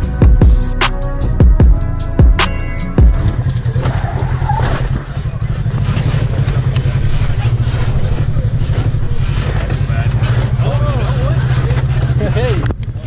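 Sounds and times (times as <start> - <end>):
off-road vehicle engine droning: 0.0 - 13.0.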